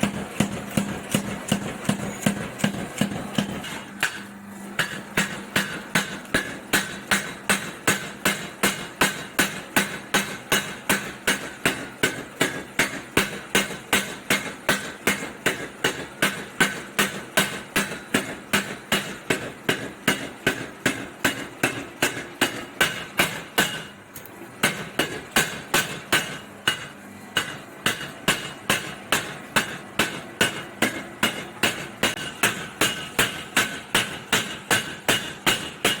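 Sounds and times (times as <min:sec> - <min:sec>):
power hammer striking metal: 0:00.0 - 0:24.0, 0:24.6 - 0:36.0.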